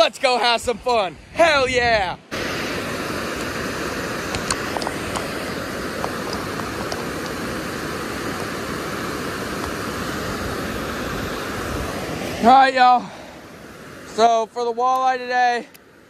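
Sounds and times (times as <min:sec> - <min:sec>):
water rushing over a dam: 0:00.0 - 0:16.0.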